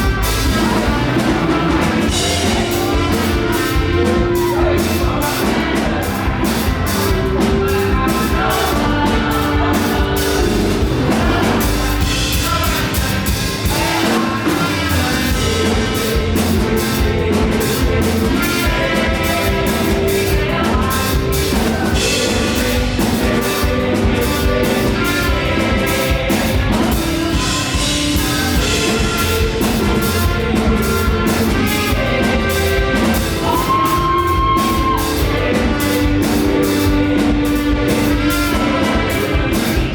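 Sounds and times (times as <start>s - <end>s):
gospel band with fast drum beat: 0.0s - 39.9s
people singing: 0.0s - 39.9s.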